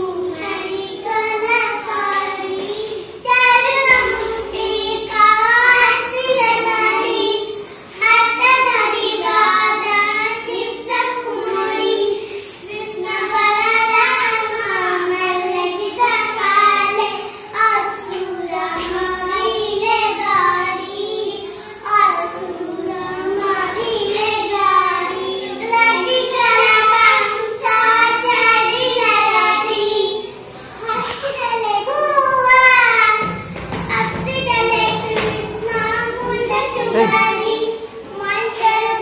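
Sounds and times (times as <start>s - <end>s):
girls singing together: 0.0s - 39.0s.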